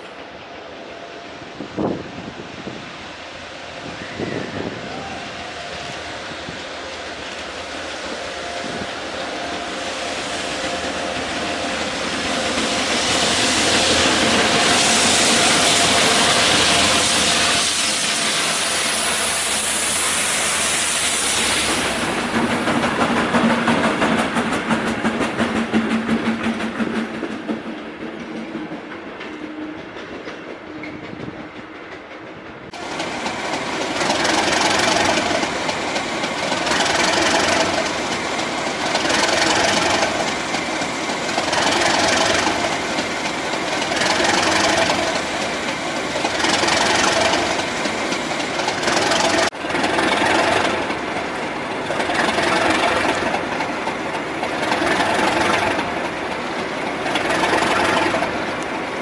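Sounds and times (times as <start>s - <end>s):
diesel locomotives: 0.0s - 59.0s.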